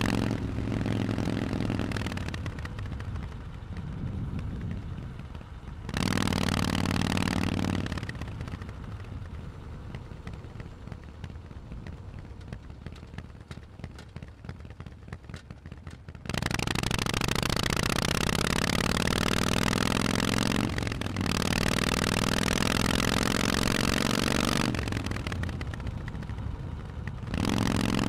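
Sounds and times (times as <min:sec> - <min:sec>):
exhaust crackle: 0:00.0 - 0:28.0
motorcycle engine revving: 0:00.0 - 0:28.0.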